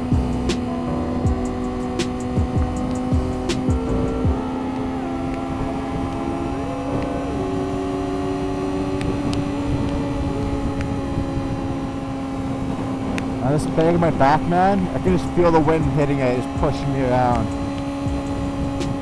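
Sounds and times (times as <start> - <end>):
motorcycle engine cruising: 0.0 - 19.0
wind rushing over microphone: 0.0 - 19.0.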